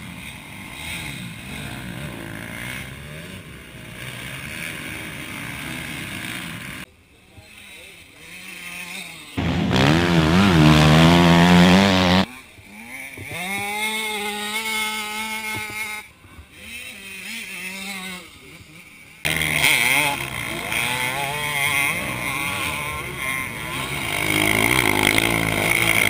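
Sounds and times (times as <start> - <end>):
motorcycle engine revving: 0.0 - 6.8, 8.2 - 15.9, 16.8 - 26.0
motocross bikes racing past: 0.0 - 26.0.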